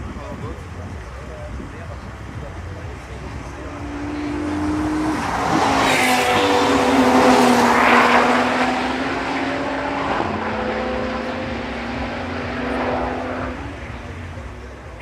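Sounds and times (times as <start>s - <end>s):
race car engine passing at speed: 0.0s - 15.0s.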